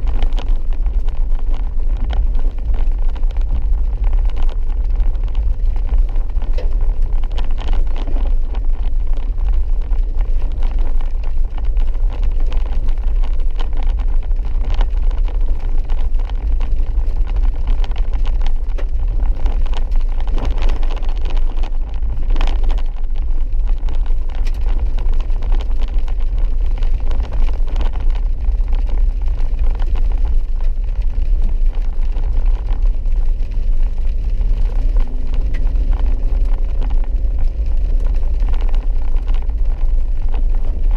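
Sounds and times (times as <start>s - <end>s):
vehicle engine and tyres rumbling: 0.0s - 40.9s.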